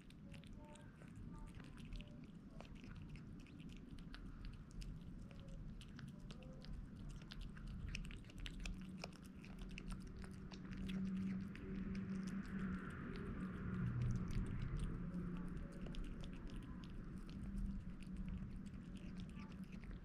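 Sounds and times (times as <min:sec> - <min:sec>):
kitten chewing wet food: 0:00.0 - 0:20.0
low steady hum: 0:00.0 - 0:20.0.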